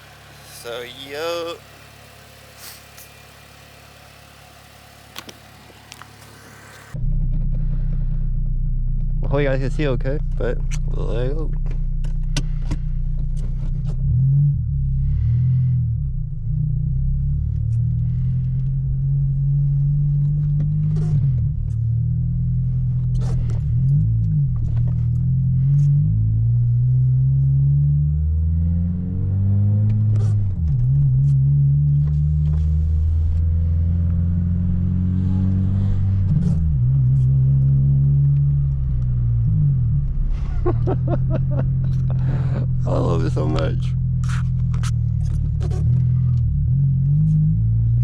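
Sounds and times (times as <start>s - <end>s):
car engine through loud exhaust: 0.0s - 48.0s.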